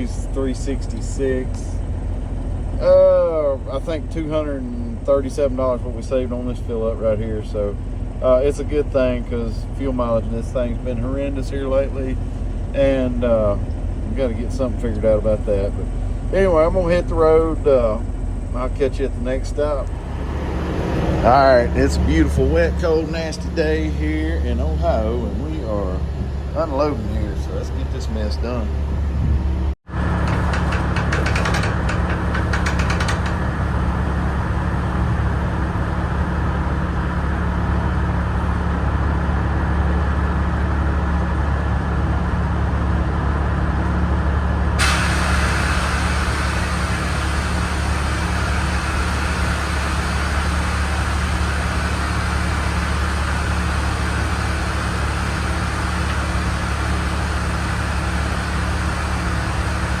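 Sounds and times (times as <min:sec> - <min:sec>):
truck diesel engine idling: 0:00.0 - 1:00.0.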